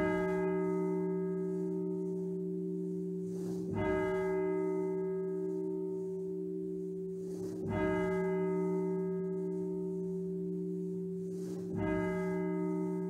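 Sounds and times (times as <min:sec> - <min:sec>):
church bell tolling: 0:00.0 - 0:13.0.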